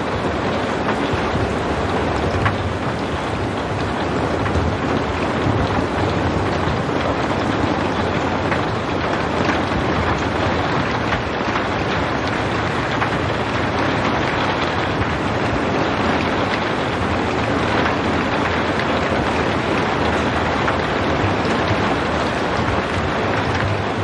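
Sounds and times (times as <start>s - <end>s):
raindrop ticks: 0.0s - 24.0s
steady rain hiss: 0.0s - 24.0s.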